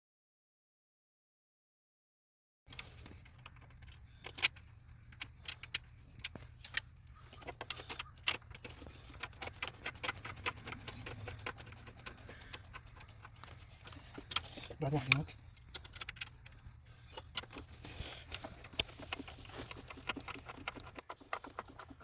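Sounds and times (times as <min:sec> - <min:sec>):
steady low hum: 0:02.7 - 0:22.0.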